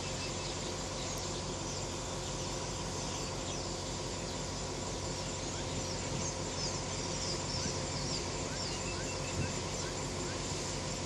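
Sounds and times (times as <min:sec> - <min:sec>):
birds chirping: 0:00.0 - 0:11.0
diesel train idling hum: 0:00.0 - 0:11.0.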